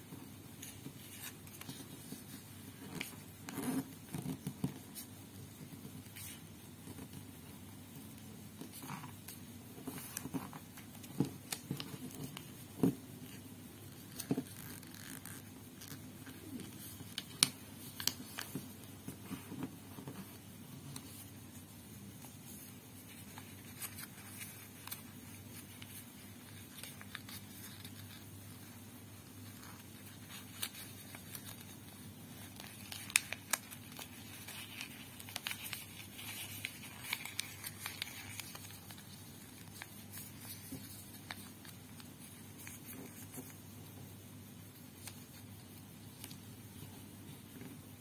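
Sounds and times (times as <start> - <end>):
paper folding and crackling: 0.1 - 7.2, 7.9 - 43.7, 44.9 - 46.8.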